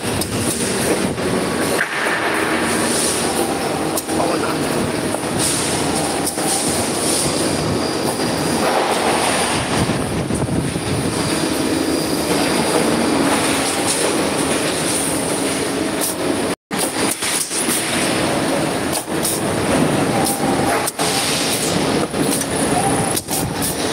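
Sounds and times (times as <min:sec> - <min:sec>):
tube cutting machine running: 0:00.0 - 0:23.9.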